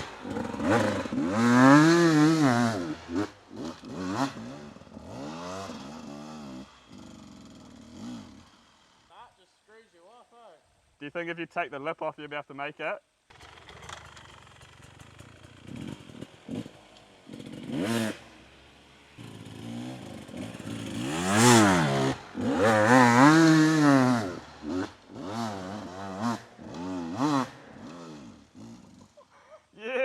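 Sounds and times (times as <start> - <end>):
dirt bike engine revving: 0.0 - 9.1, 13.3 - 29.2.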